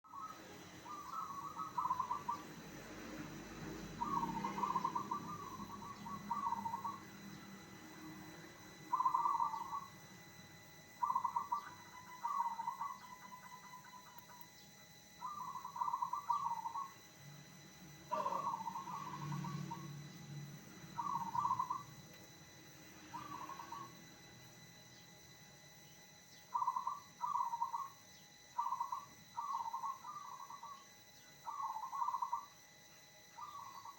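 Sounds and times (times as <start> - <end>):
dove cooing: 0.0 - 25.0, 26.4 - 32.6, 33.3 - 33.9.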